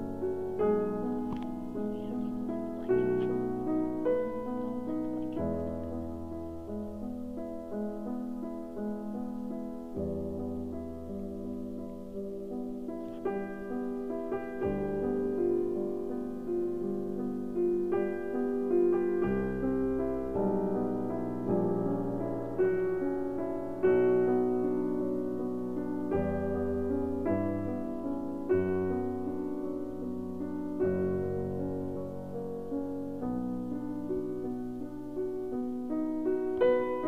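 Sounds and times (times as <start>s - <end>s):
slow piano music: 0.0s - 37.0s.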